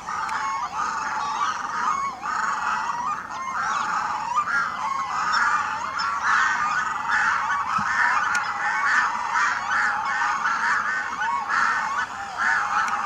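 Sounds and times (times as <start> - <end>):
loons calling: 0.0 - 13.0.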